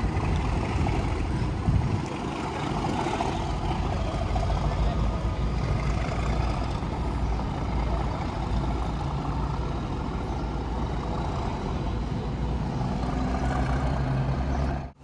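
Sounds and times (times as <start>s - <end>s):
diesel locomotive engine idling: 0.0s - 15.0s.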